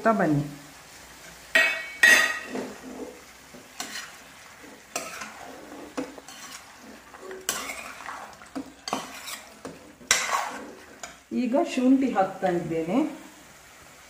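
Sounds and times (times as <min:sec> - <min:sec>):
frying sizzle: 0:00.0 - 0:14.0
spatula scraping a pan: 0:01.1 - 0:12.7.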